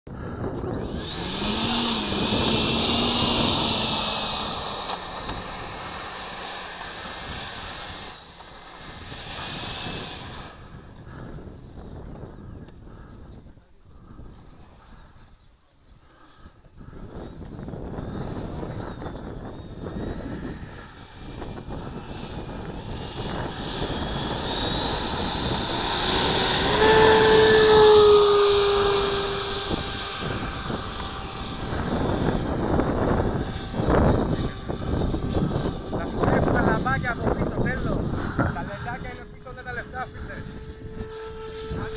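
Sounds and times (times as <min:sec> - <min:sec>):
electric ducted fan whine: 0:00.1 - 0:15.3, 0:16.0 - 0:41.9.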